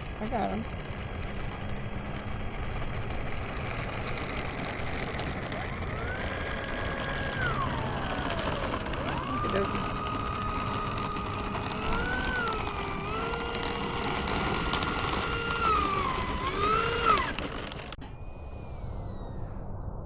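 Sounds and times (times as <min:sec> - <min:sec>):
model jet motor whining: 0:00.0 - 0:19.5.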